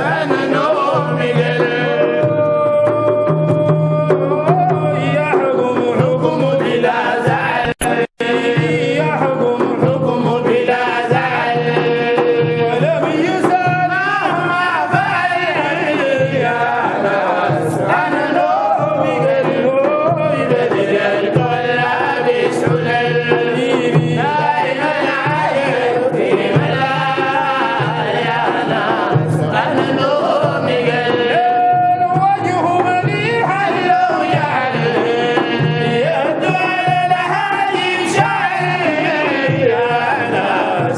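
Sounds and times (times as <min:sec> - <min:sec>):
hand drum beat: 0:00.0 - 0:40.9
men chanting: 0:00.0 - 0:40.9.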